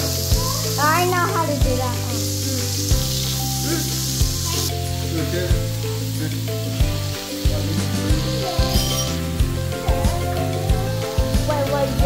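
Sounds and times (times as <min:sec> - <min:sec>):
background music with slow beat: 0:00.0 - 0:12.0
meat sizzling on grill pan: 0:00.0 - 0:12.0.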